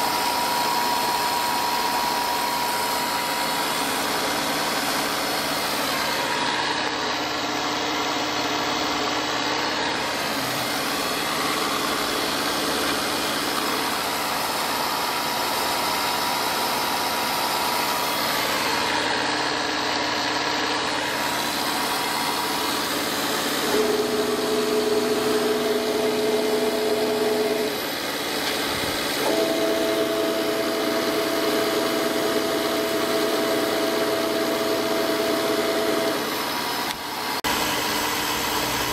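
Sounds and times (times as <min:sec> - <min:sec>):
milling machine humming: 0:00.0 - 0:38.9
steady multi-tone whine: 0:00.0 - 0:38.9.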